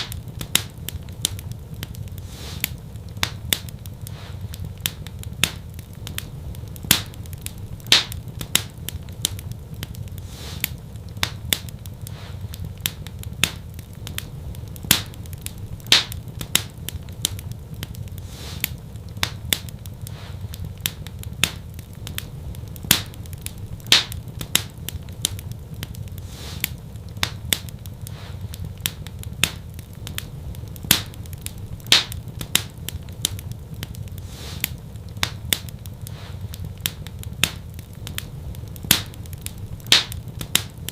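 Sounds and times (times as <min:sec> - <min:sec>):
fireplace fire crackling: 0:00.0 - 0:40.9
low rumble of flames: 0:00.0 - 0:40.9.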